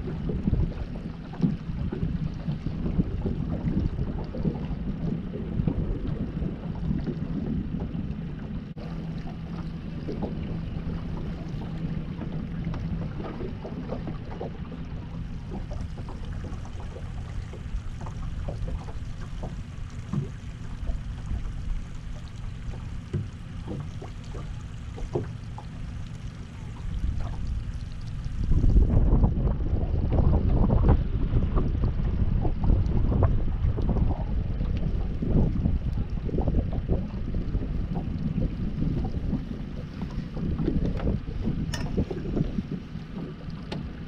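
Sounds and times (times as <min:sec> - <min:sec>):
boat motor humming: 0:00.0 - 0:44.0
waves slapping hull: 0:00.0 - 0:44.0.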